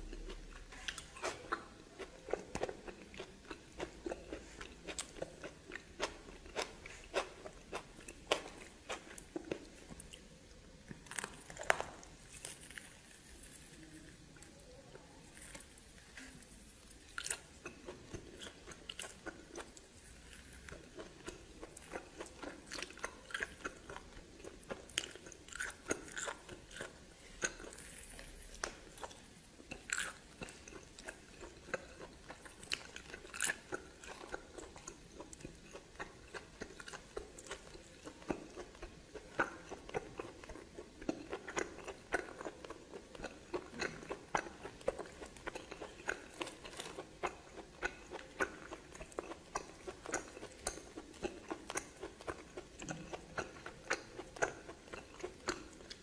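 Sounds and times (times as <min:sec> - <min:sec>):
chewing and biting: 0:00.0 - 0:10.3, 0:15.3 - 0:56.0.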